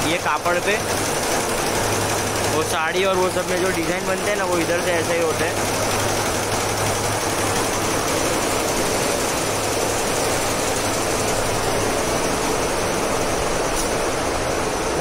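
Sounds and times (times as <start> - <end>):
embroidery machines running: 0.0 - 15.0.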